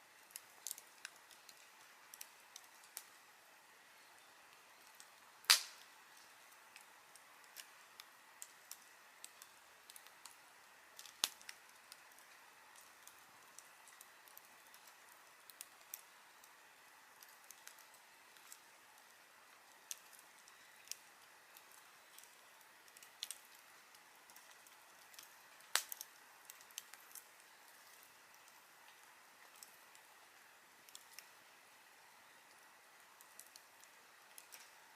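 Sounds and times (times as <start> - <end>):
faint steady hiss: 0.0 - 34.9
wood fire crackling and popping: 0.0 - 34.9.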